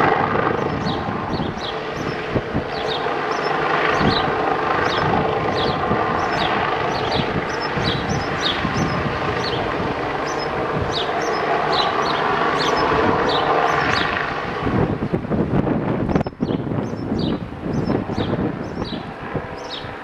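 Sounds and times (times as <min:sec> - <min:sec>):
helicopter rotor drone: 0:00.0 - 0:20.0.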